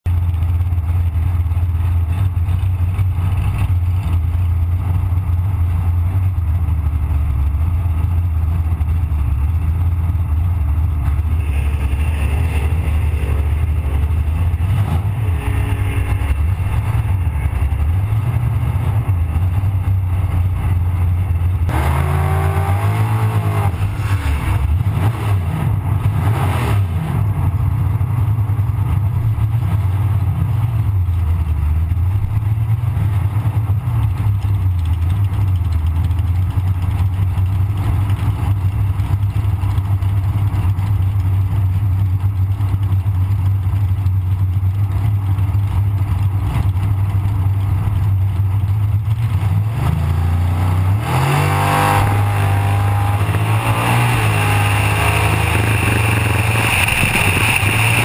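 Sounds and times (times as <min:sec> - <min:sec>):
drag car engine idling: 0:00.0 - 0:21.7, 0:23.1 - 0:51.4.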